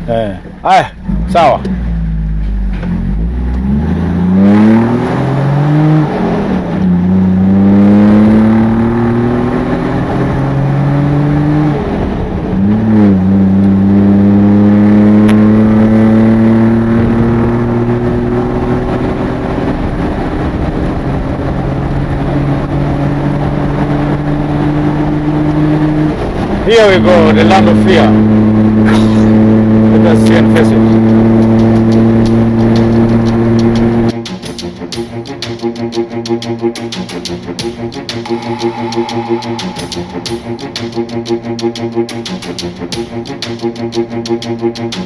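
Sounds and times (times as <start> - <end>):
vehicle engine accelerating: 1.0 - 45.0.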